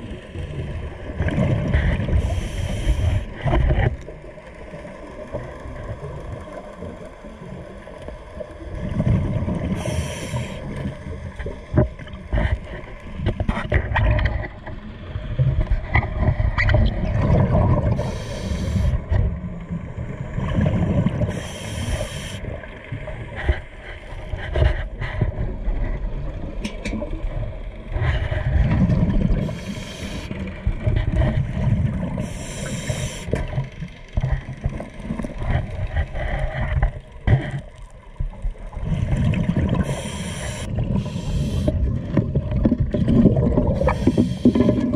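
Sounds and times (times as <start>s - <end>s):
bubbles rumbling and gurgling: 0.0s - 44.9s.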